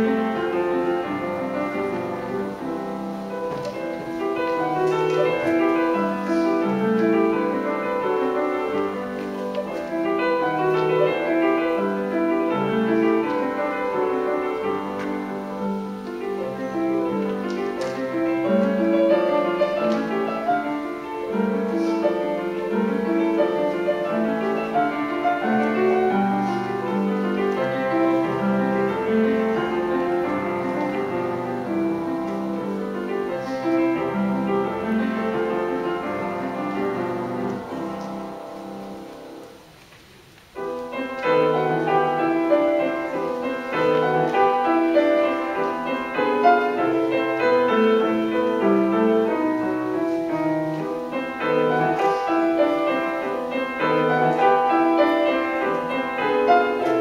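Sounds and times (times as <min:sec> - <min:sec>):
classical piano playing: 0:00.0 - 0:57.0.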